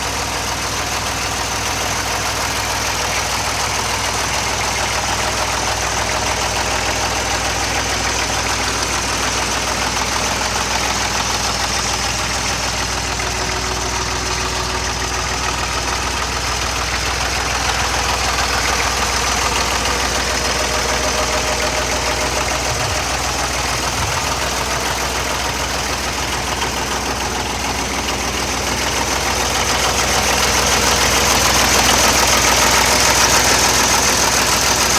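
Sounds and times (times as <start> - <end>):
diesel mower engine idling: 0.0 - 34.9.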